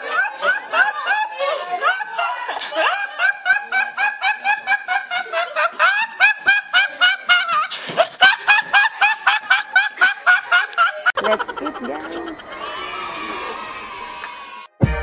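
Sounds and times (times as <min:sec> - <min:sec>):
boy laughing uncontrollably: 0:00.0 - 0:12.8.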